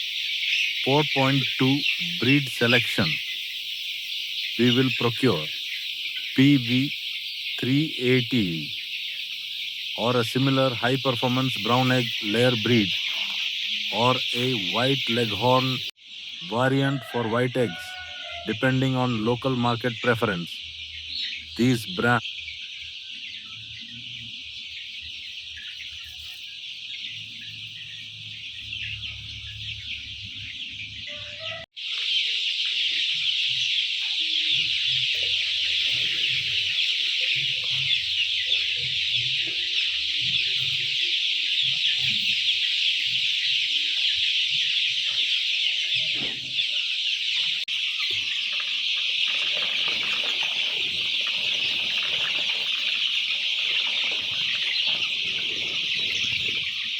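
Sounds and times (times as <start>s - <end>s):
chickens calling: 0.0s - 56.9s.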